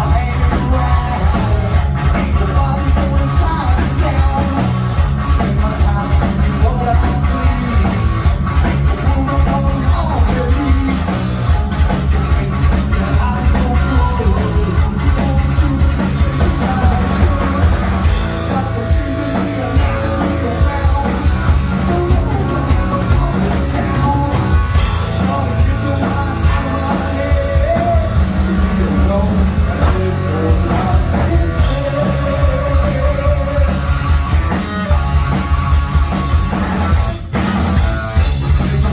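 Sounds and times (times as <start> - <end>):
bass guitar: 0.0 - 38.9
distorted electric guitar: 0.0 - 38.9
fast drum beat: 0.0 - 38.9.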